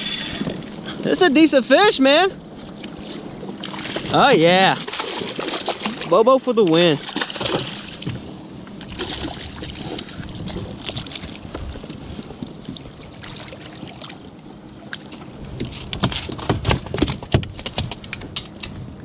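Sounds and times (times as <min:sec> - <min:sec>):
water sloshing against kayak: 0:02.3 - 0:19.0.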